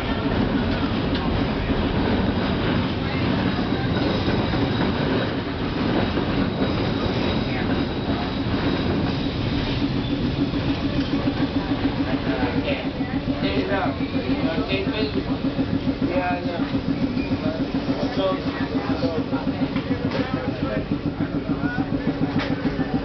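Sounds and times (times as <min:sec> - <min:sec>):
streetcar motors: 0:00.0 - 0:23.0
streetcar wheels rumbling on rail: 0:00.0 - 0:23.0.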